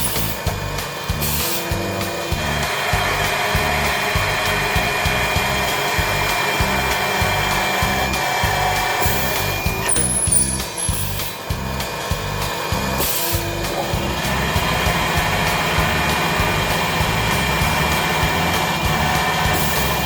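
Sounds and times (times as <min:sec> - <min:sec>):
background music with low beat: 0:00.0 - 0:20.0
friction drill whining into metal: 0:00.0 - 0:20.0.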